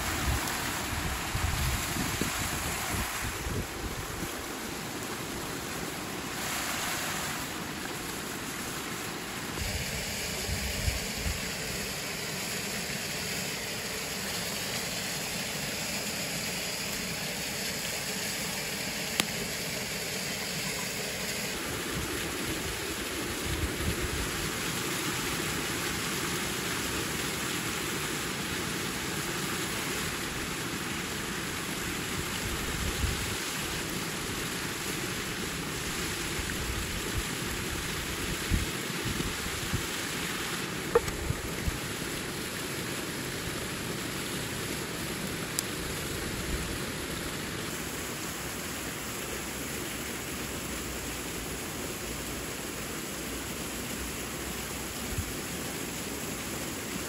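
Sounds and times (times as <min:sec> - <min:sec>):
waterfall and stream rushing: 0:00.0 - 0:57.0.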